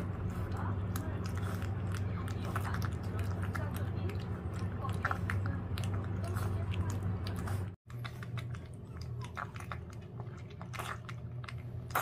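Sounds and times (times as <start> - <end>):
low steady hum: 0.0 - 12.0
puppy chewing wet food: 0.0 - 12.0.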